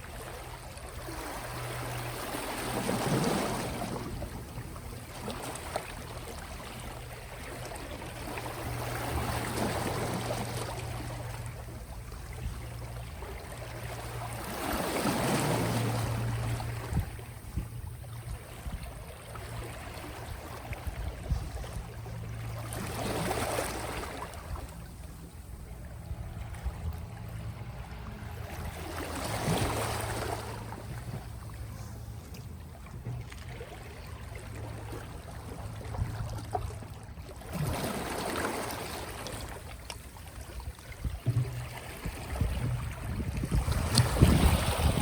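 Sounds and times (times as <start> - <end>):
small sea waves washing ashore: 0.0 - 45.0.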